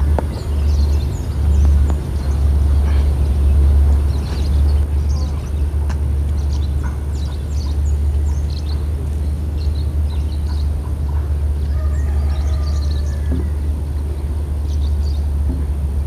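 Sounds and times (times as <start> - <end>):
small birds chirping: 0.0 - 15.6
steady low rumble: 0.0 - 16.0.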